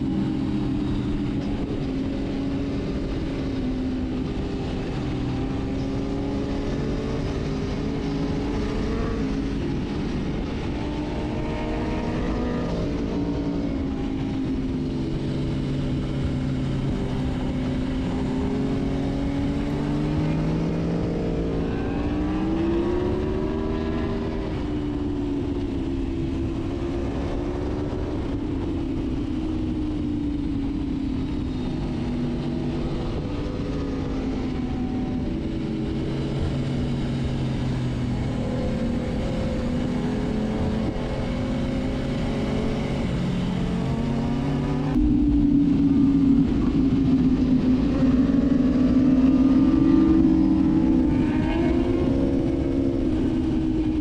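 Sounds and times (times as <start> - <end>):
motorcycle engine running: 0.0 - 54.0
wind rush: 0.0 - 54.0.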